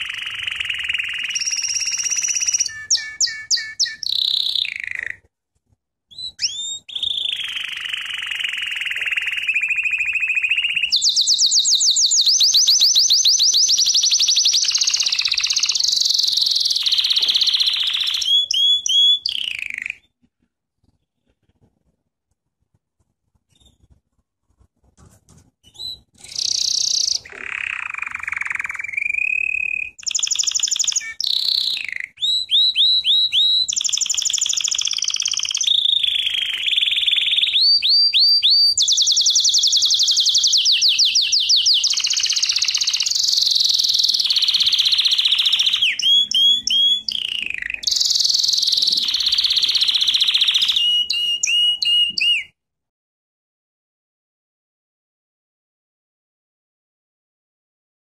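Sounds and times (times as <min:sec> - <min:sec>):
canary singing trills: 0:00.0 - 0:05.3, 0:06.1 - 0:20.2, 0:23.4 - 0:24.0, 0:25.6 - 0:52.6.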